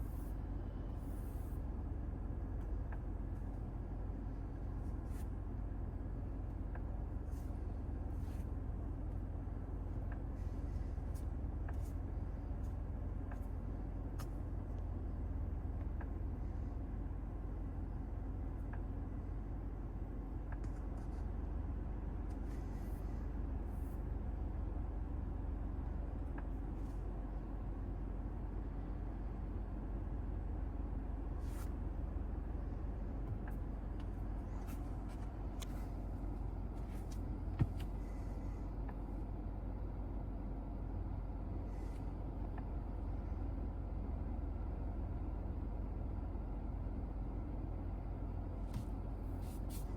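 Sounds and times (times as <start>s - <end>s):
engine and road noise rumble: 0.0s - 49.9s.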